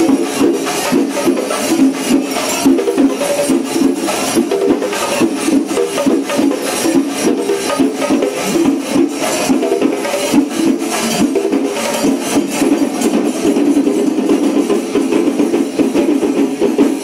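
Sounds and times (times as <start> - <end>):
clashing hand cymbals: 0.0 - 17.0
drumming with stick strokes: 0.0 - 17.0.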